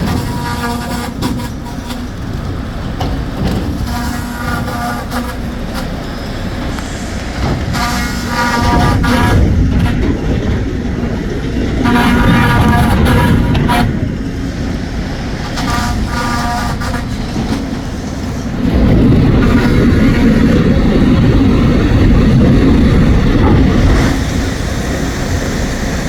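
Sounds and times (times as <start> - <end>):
sawmill machinery rumbling: 0.0 - 26.0.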